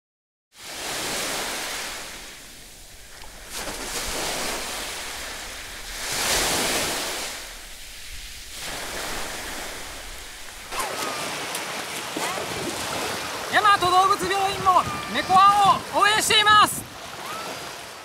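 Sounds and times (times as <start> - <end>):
sea surf washing ashore: 0.6 - 18.0
wind on microphone: 0.8 - 11.4, 12.1 - 17.8.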